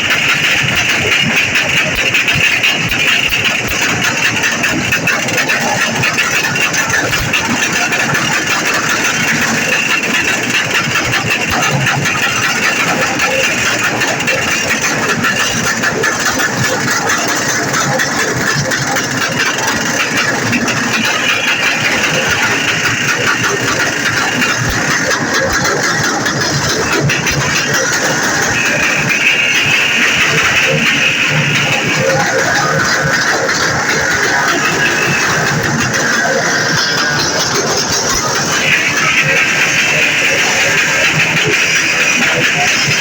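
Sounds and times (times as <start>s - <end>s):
vehicle engine running: 0.0s - 43.0s.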